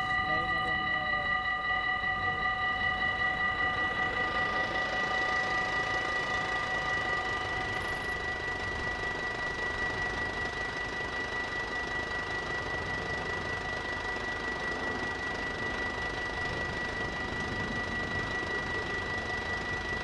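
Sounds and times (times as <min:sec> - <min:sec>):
level crossing warning bell: 0:00.0 - 0:20.0.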